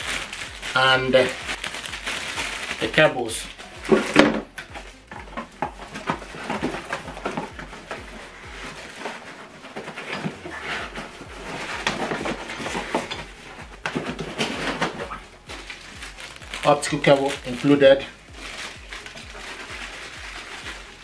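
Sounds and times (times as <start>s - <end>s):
rummaging through cardboard box: 0.0s - 21.0s.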